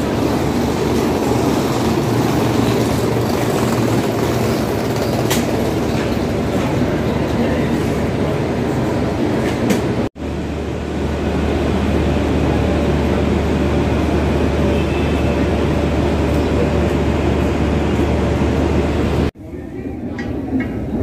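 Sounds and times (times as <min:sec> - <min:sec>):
railway traffic rumble: 0:00.0 - 0:21.0.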